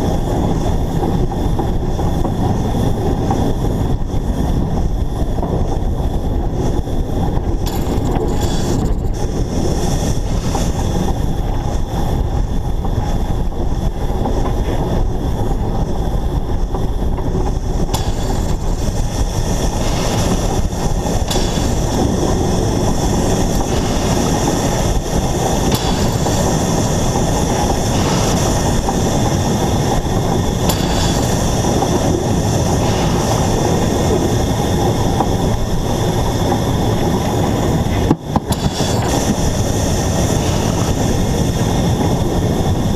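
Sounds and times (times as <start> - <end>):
steam locomotive hiss: 0.0 - 42.9
wheels rumbling on rails: 0.0 - 42.9.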